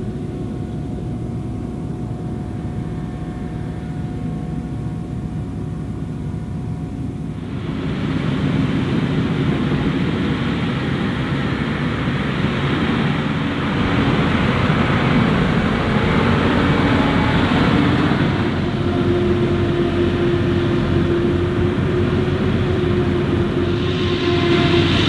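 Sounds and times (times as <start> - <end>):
forage harvester engine running: 0.0 - 25.0.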